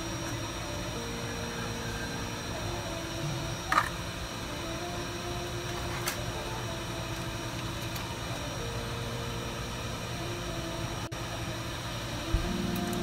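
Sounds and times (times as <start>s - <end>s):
faint hum: 0.0s - 13.0s
fan-like whirring hiss: 0.0s - 13.0s.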